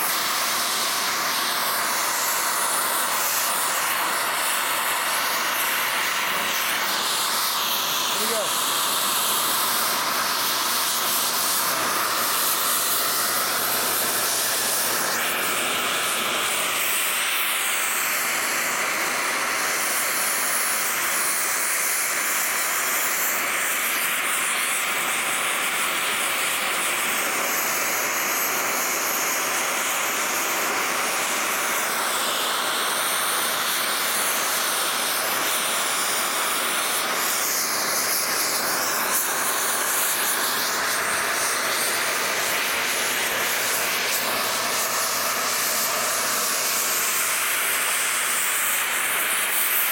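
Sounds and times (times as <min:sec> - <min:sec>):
cutting torch hissing: 0:00.0 - 0:49.9.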